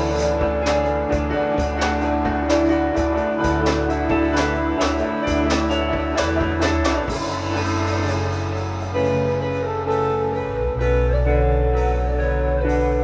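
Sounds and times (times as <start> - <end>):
electric guitar chords: 0.0 - 13.0
steady bass note: 0.0 - 13.0.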